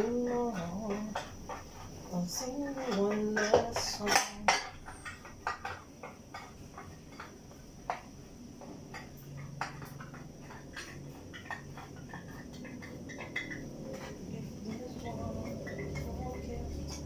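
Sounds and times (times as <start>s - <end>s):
food ticking and popping in pans: 0.0s - 17.0s
low steady hum: 0.0s - 17.0s.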